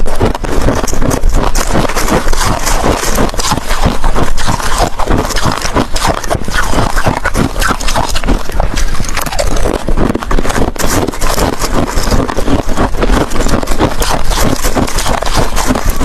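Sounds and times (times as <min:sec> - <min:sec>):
ice cubes being chewed: 0:00.1 - 0:16.0.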